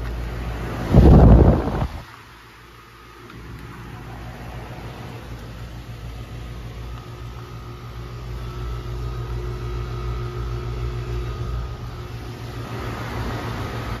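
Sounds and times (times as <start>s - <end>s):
faint steady whine: 0.0s - 14.0s
heat pump low hum: 0.0s - 14.0s.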